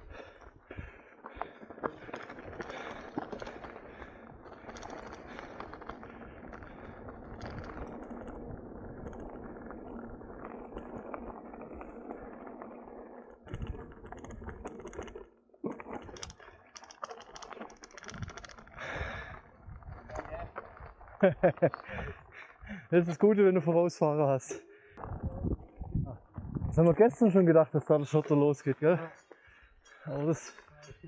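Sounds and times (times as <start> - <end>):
bike tyres on loose gravel: 0.0 - 31.0
stones and bike rattling: 0.0 - 31.0.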